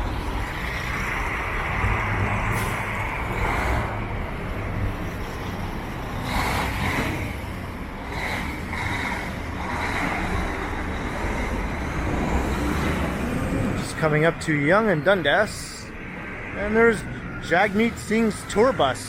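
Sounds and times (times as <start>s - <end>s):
street traffic rumble: 0.0s - 19.0s
vehicles passing: 0.0s - 19.0s.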